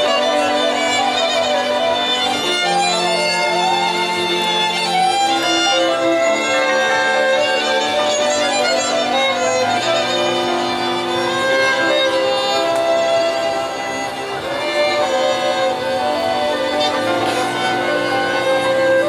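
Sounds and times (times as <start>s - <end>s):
fiddles playing melody: 0.0s - 19.0s
folk string band playing: 0.0s - 19.0s.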